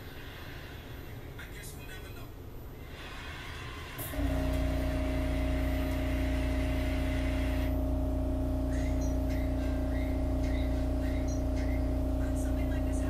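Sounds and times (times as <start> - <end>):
subway car machinery humming: 0.0 - 13.0.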